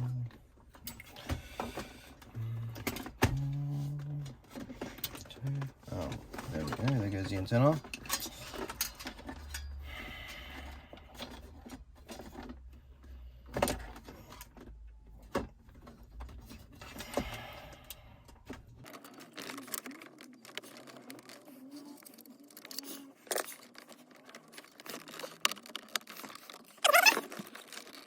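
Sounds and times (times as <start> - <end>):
rustling of wiring and trim: 0.0 - 28.0.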